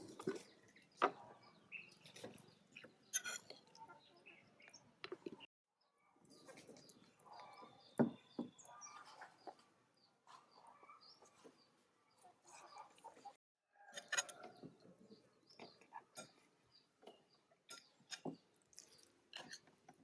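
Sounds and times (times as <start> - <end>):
birds chirping and clucking: 0.0 - 19.9.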